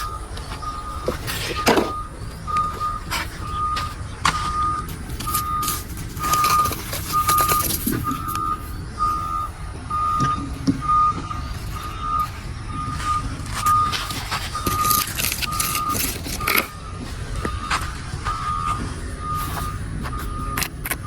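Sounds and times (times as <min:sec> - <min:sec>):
reversing alarm beeping: 0:00.0 - 0:21.0.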